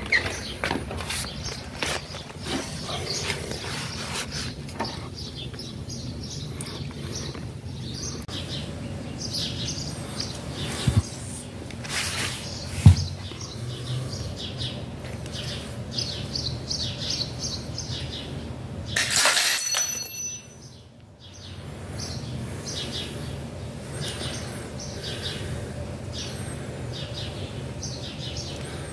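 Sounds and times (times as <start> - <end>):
small birds chirping: 0.0 - 19.0, 20.5 - 28.9.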